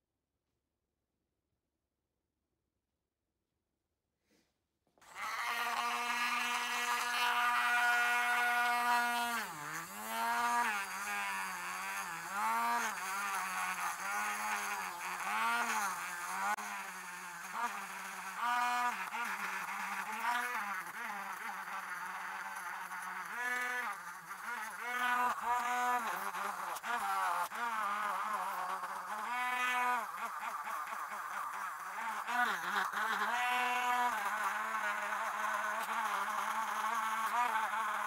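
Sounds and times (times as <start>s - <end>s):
rotary tool wire wheel whining: 5.0s - 38.0s.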